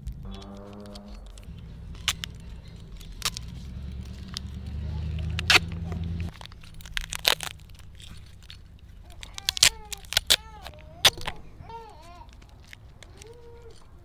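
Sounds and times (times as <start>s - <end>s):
duct tape ripping: 0.0s - 14.0s
low rumble: 0.0s - 14.0s.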